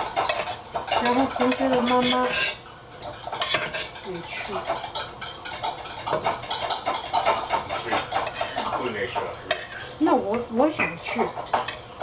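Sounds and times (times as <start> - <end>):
utensil scraping a pan: 0.0 - 12.0.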